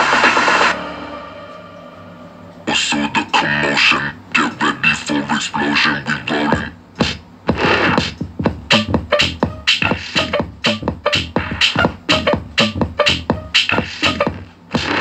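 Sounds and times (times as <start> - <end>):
electronic dance music: 0.0 - 3.7, 6.5 - 15.0.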